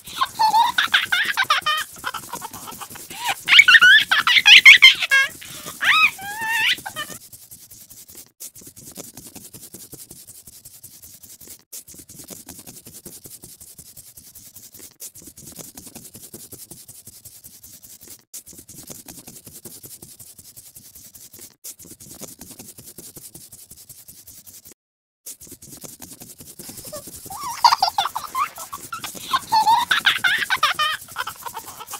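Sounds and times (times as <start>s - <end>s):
scribbling on paper: 0.0s - 31.9s.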